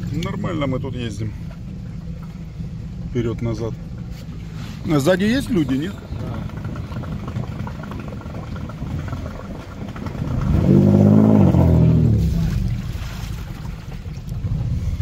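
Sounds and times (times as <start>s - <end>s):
off-road vehicle engine revving: 0.0s - 15.0s
vehicle driving through water: 0.0s - 15.0s.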